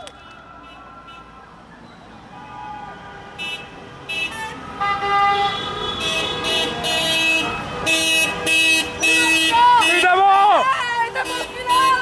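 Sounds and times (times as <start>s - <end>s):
car horns honking: 2.3s - 12.0s.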